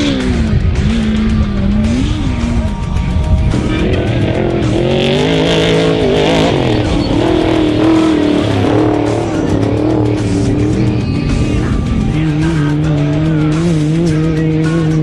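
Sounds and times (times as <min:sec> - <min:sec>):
background music: 0:00.0 - 0:15.0
race vehicle engines revving: 0:00.0 - 0:15.0.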